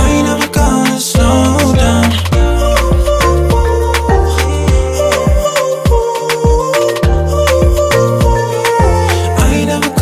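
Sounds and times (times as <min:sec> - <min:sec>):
steady drum beat: 0:00.0 - 0:09.6
bass: 0:00.0 - 0:10.0
upbeat instrumental music: 0:00.0 - 0:10.0.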